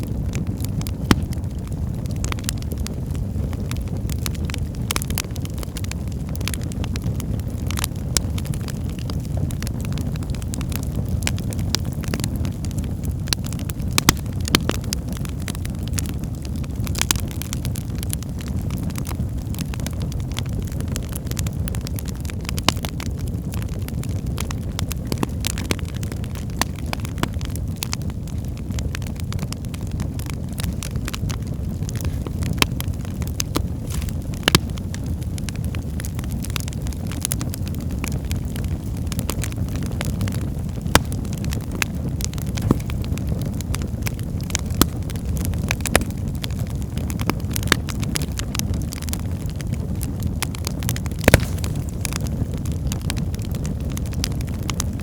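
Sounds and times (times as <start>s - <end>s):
burning logs crackling and popping: 0.0s - 55.0s
low rumble of flames: 0.0s - 55.0s.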